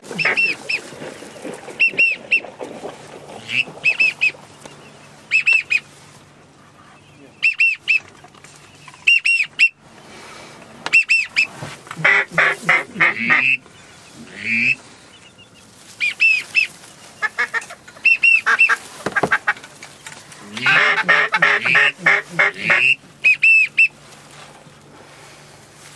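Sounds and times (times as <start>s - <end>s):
whistled duck calls: 0.0s - 9.8s, 10.8s - 24.0s.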